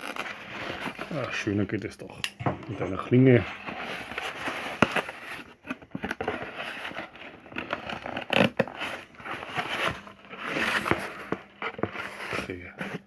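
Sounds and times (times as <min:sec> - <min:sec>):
knife cutting packaging: 0:00.0 - 0:01.7, 0:03.2 - 0:13.0.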